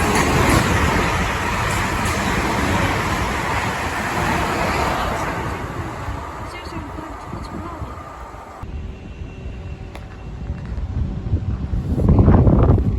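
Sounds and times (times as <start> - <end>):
train wheel and rail noise: 0.0 - 12.9.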